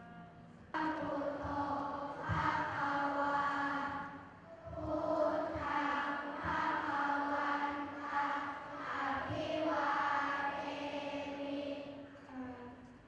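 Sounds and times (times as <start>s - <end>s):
many voices chanting in unison: 0.8s - 12.3s.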